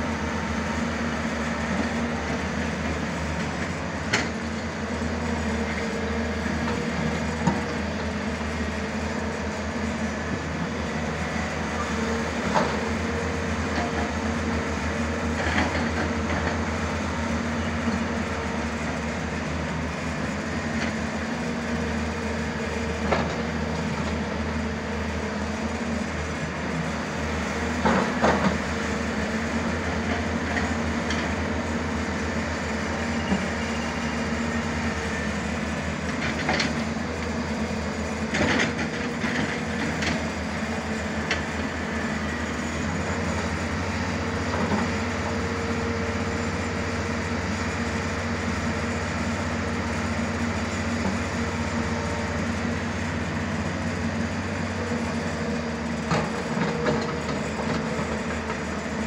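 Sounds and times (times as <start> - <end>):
excavator diesel engine rumbling: 0.0 - 59.0.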